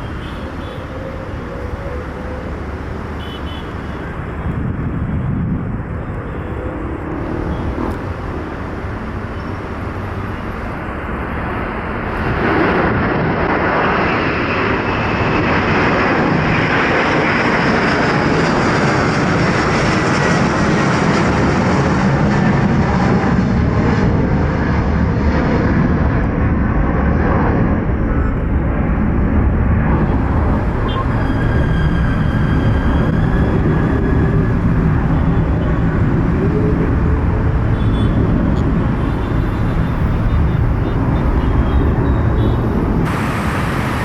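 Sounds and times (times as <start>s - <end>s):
jet engines roaring: 0.0s - 44.0s.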